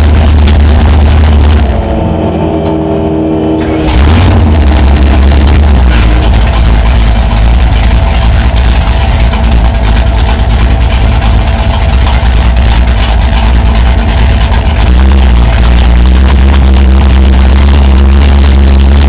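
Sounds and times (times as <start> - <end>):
race car engine idling loudly: 0.0 - 19.0.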